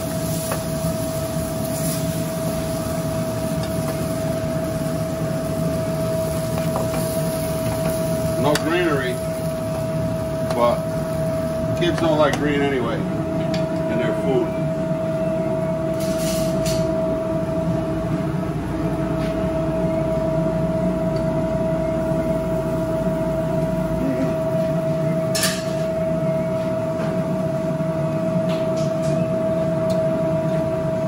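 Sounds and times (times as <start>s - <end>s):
kitchen equipment humming: 0.0s - 31.0s.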